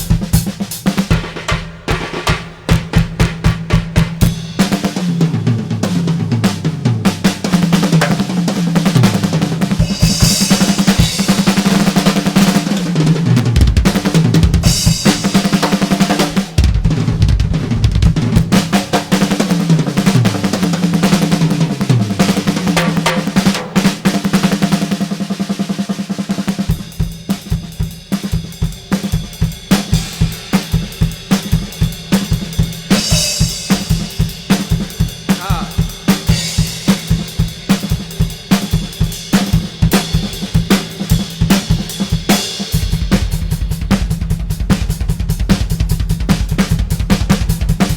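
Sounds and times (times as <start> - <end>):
drum kit played fast: 0.0 - 47.9.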